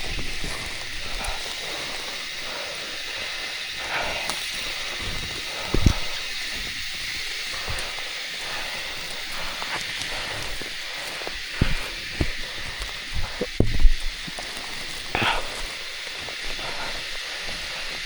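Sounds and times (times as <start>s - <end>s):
high outdoor hiss: 0.0s - 18.0s.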